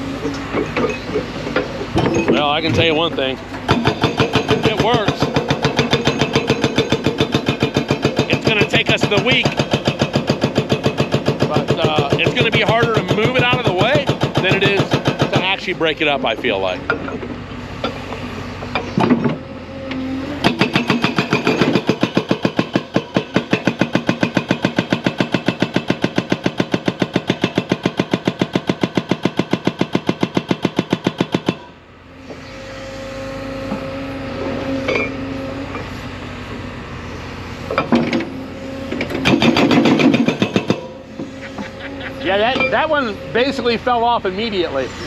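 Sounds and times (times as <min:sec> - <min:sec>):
hydraulic breaker hammering rock: 0:00.0 - 0:36.6, 0:37.6 - 0:45.0
diesel engine running: 0:00.0 - 0:45.0.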